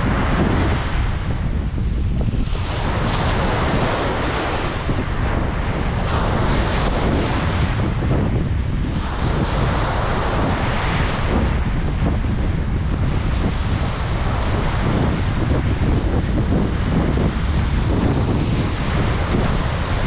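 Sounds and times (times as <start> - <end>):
surf breaking on a beach: 0.0 - 20.0
wind rumbling on microphone: 0.0 - 20.0.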